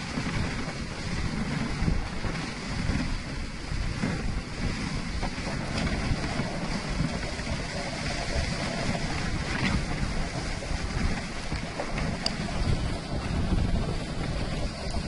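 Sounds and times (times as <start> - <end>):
sled runners hissing on snow: 0.0 - 15.0
wind buffeting microphone: 0.0 - 15.0.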